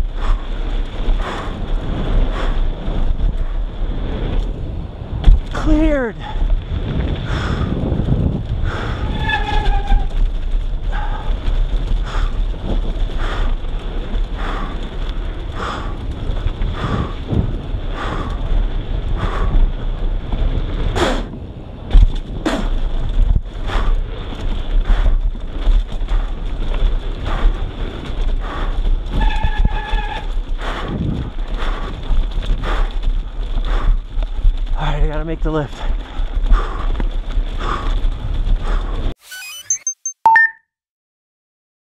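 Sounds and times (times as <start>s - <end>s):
bike tyres and frame rattling: 0.0s - 39.2s
wind buffeting microphone: 0.0s - 39.2s.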